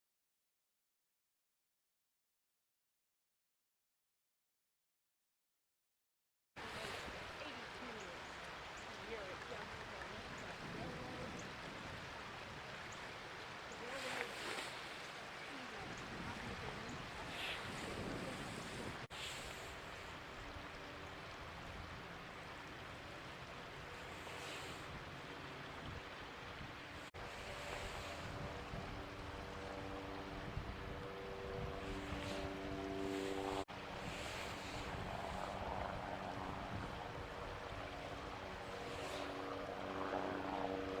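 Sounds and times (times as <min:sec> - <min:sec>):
flooded river rushing: 0:06.6 - 0:41.0
low motor hum: 0:06.7 - 0:41.0.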